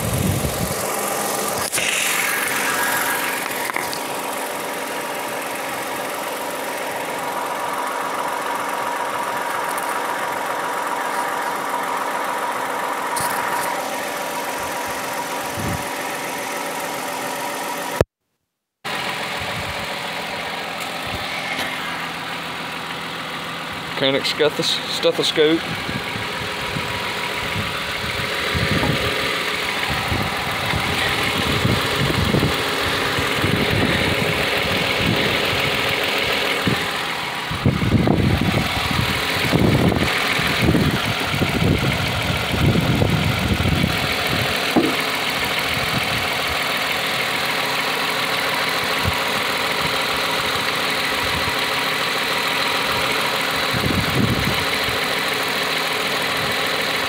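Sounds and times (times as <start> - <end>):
car engine idling: 0.0 - 18.1, 18.9 - 57.0.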